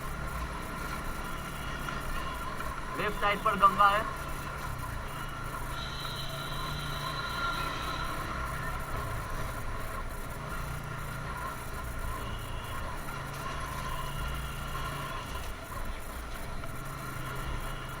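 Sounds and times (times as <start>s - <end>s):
motorcycle engine running: 0.0s - 18.0s
wind and road noise: 0.0s - 18.0s.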